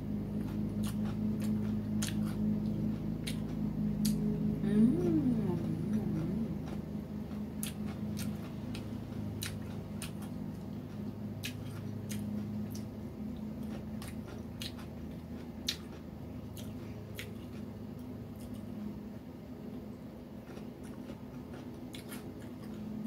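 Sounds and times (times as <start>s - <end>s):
steady low hum: 0.0s - 23.0s
person chewing food: 0.1s - 23.0s.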